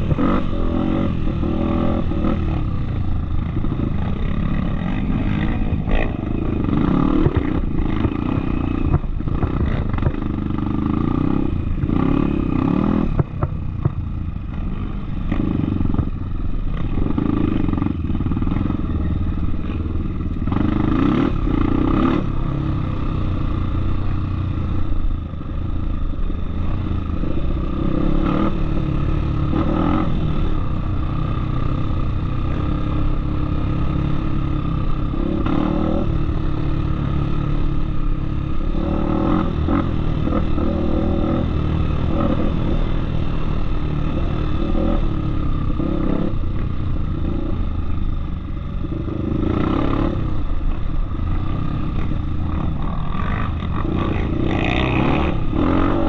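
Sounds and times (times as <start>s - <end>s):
dirt bike engine revving: 0.0s - 13.5s, 20.4s - 23.5s, 26.6s - 47.7s, 48.8s - 56.0s.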